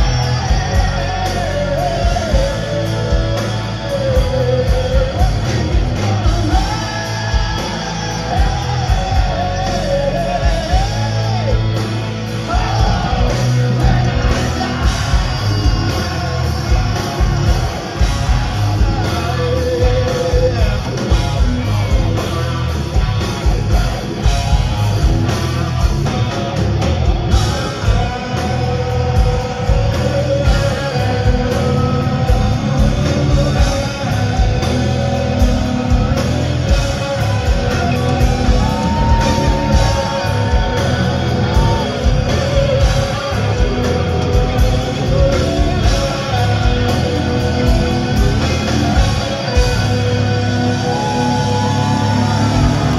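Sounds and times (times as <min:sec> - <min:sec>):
man singing long notes: 0:00.0 - 0:22.5, 0:27.3 - 0:52.9
live rock band playing: 0:00.0 - 0:52.9.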